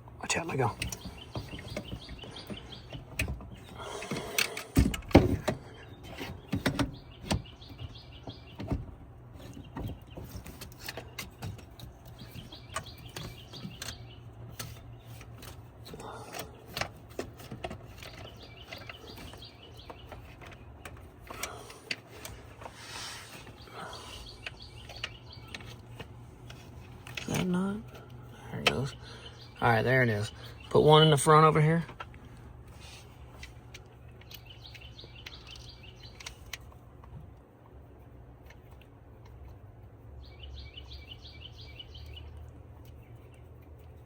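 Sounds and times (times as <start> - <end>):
birds chirping: 0.0 - 37.0, 37.9 - 44.0.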